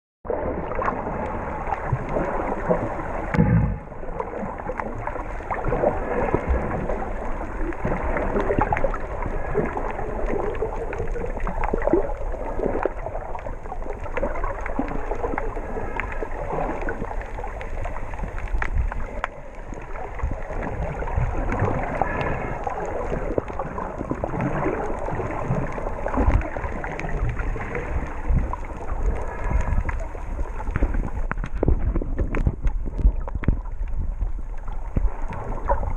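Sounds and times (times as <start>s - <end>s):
muffled underwater water wash: 0.2s - 35.9s
small underwater clicks: 0.6s - 3.5s, 4.2s - 35.9s.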